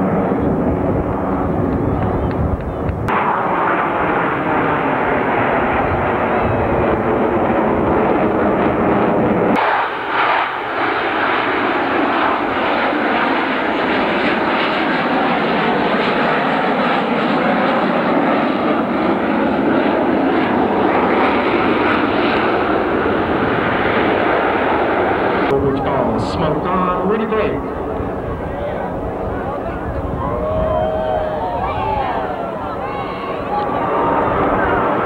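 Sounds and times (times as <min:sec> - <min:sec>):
jet noise overhead: 0:00.0 - 0:35.0.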